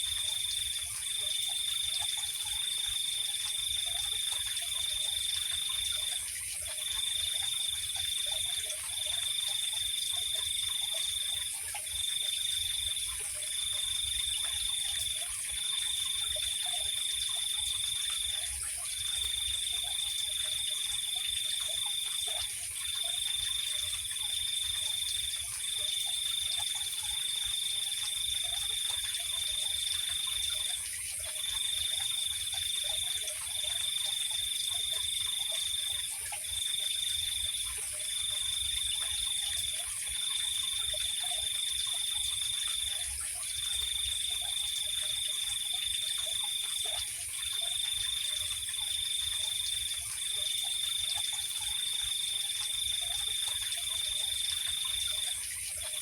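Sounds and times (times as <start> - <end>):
cricket trilling: 0.0 - 56.0.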